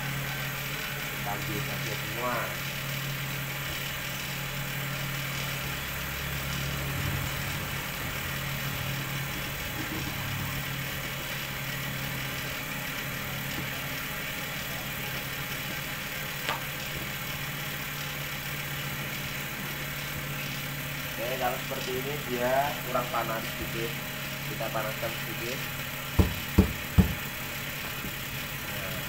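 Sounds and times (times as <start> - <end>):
cotton candy machine humming: 0.0 - 29.0.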